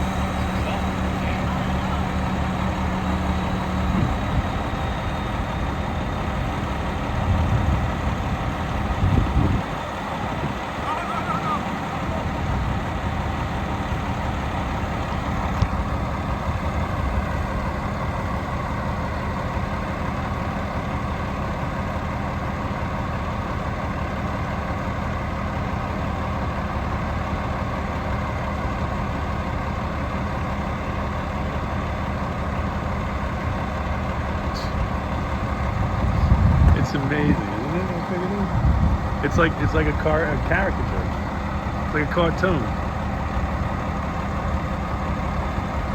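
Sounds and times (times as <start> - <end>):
heavy vehicle engine rumbling: 0.0 - 45.9.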